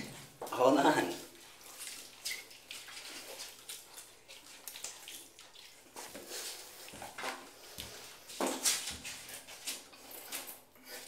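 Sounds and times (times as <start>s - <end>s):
water splashing in a bathtub: 0.0s - 11.0s.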